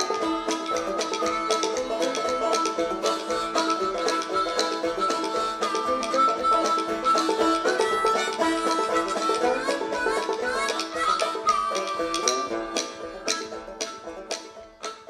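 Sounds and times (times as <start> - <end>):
upbeat string-band music: 0.0 - 15.0.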